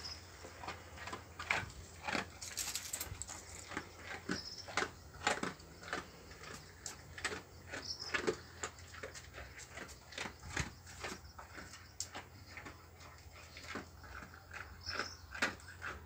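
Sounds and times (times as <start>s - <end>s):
dog crunching kibble: 0.2s - 16.0s.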